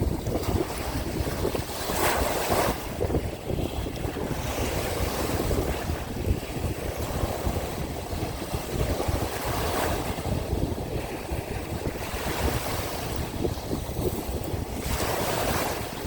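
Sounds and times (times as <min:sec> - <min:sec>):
sea waves washing onto shore: 0:00.0 - 0:16.0
wind buffeting microphone: 0:00.0 - 0:16.0.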